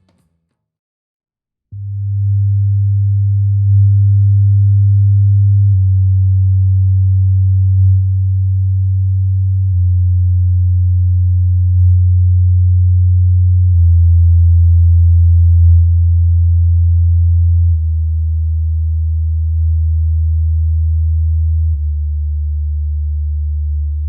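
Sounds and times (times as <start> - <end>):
low bass test tones: 1.8 - 24.0.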